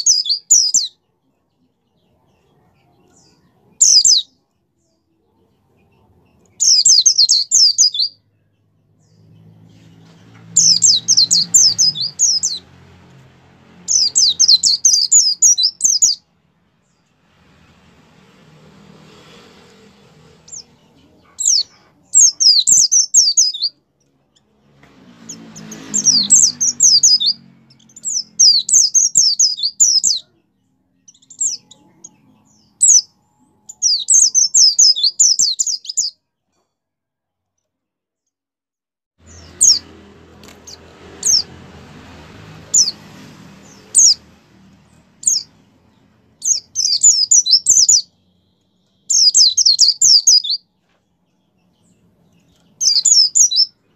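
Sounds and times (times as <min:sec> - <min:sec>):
bird twittering song: 0:00.0 - 0:12.9, 0:13.8 - 0:17.1, 0:20.4 - 0:36.2, 0:39.2 - 0:41.5, 0:42.7 - 0:53.9.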